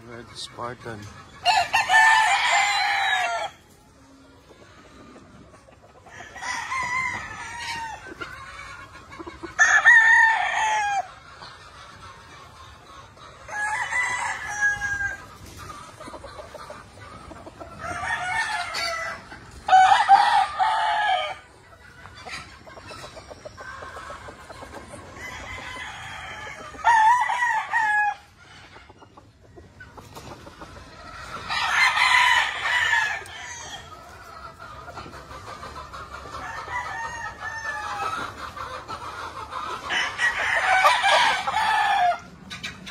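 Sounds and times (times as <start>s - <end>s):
roosters crowing: 0.0s - 42.9s.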